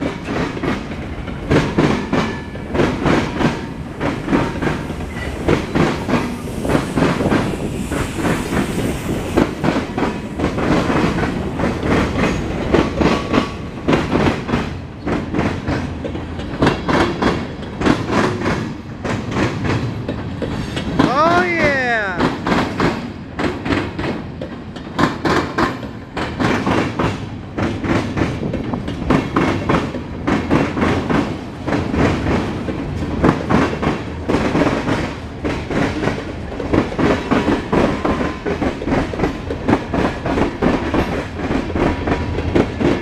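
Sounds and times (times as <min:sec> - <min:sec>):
freight train wheels clattering: 0:00.0 - 0:21.4, 0:22.2 - 0:43.0
low train rumble: 0:00.0 - 0:43.0.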